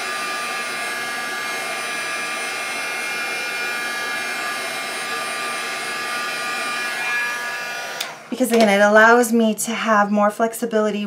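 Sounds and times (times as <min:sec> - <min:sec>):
heat gun fan whirring: 0:00.0 - 0:09.0.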